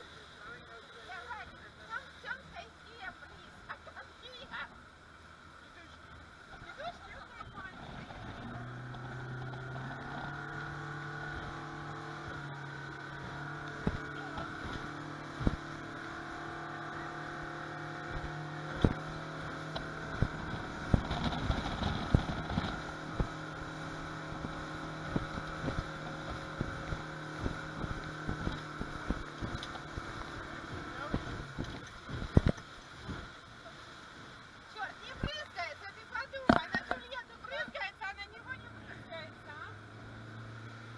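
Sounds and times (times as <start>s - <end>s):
motorboat engine: 0.0s - 40.9s
hull slapping over waves: 6.2s - 40.9s.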